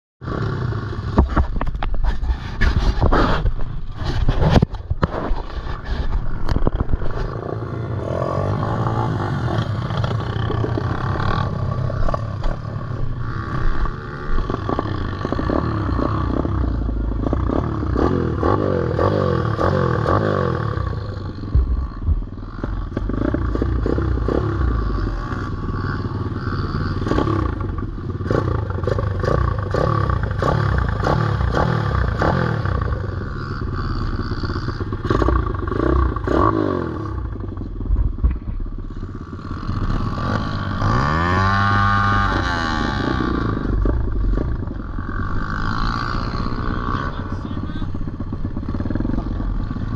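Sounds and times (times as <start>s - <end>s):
pit bike engine revving: 0.2s - 1.7s, 2.4s - 49.9s.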